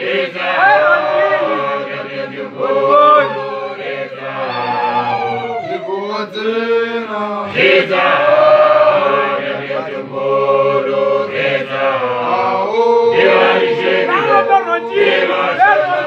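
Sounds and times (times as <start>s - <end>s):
voices chanting a cappella: 0.0s - 16.0s.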